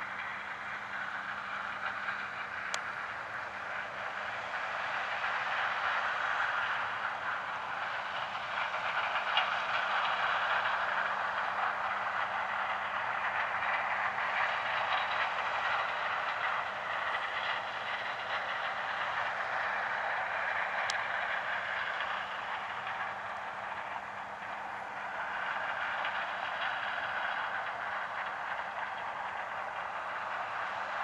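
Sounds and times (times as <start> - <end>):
combine harvester running: 0.0 - 31.0
tractor running: 0.0 - 31.0.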